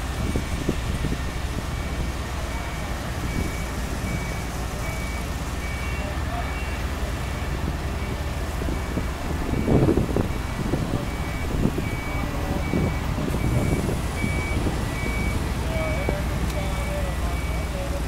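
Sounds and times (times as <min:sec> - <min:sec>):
diesel equipment rumbling: 0:00.0 - 0:18.0
backup alarm beeping: 0:01.7 - 0:17.9.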